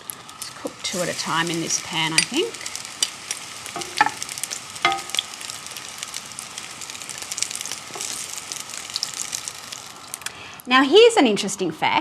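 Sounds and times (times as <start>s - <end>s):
batter sizzling in a frying pan: 0.0s - 10.6s.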